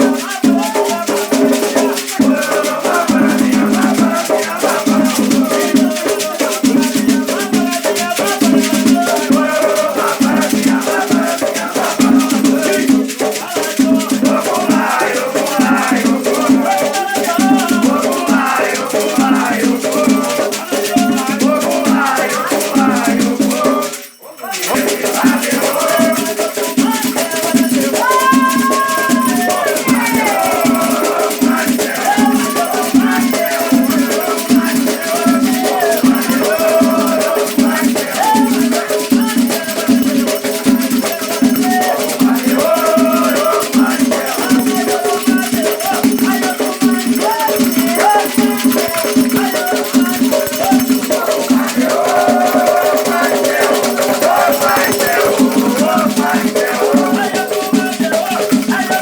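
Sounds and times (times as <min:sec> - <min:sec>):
shaken rattle: 0:00.0 - 0:59.0
voices singing: 0:00.0 - 0:59.0.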